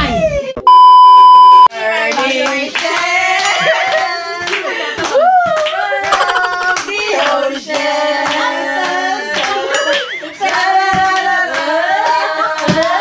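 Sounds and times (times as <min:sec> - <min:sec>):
hand claps: 0:02.1 - 0:13.0.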